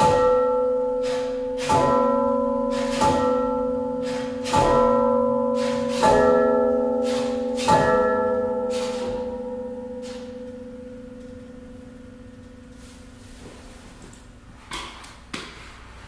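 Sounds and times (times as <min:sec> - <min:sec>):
bell-like chord ringing: 0:00.0 - 0:13.2.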